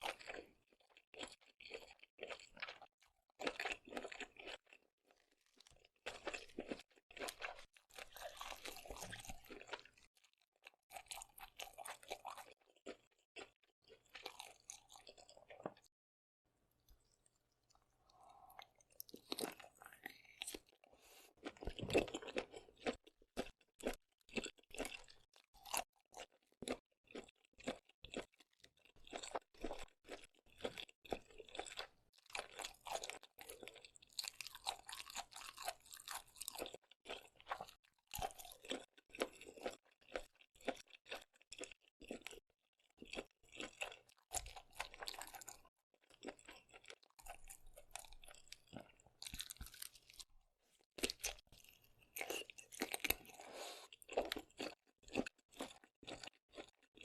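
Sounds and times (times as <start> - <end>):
chewing and crunching seafood: 0.0 - 16.0, 16.8 - 57.0.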